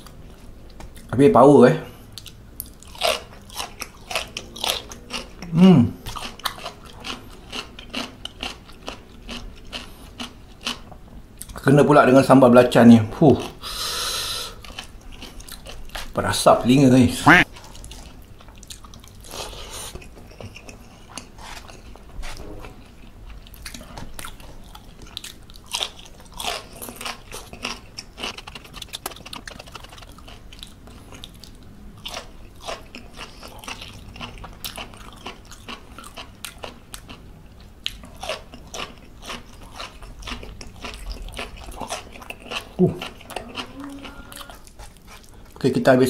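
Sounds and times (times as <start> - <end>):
crunching while eating: 1.9 - 11.6, 13.4 - 16.2, 17.4 - 45.7
wet chewing: 2.1 - 11.6, 14.5 - 16.2, 17.4 - 45.6.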